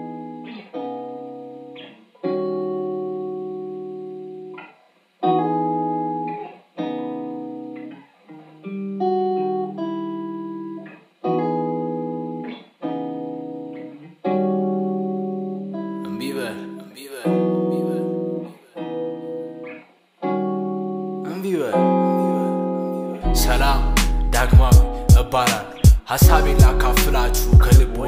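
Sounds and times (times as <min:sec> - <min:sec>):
guitar chords ringing: 0:00.0 - 0:28.0.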